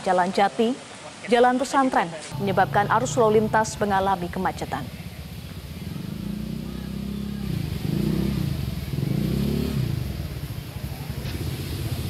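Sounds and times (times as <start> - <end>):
motorcycle engine revving: 2.3 - 12.0.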